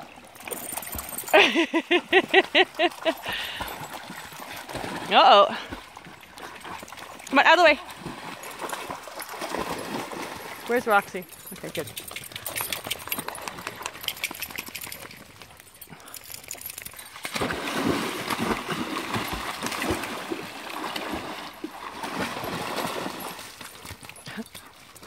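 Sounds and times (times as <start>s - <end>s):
dog splashing through water: 2.6s - 25.0s.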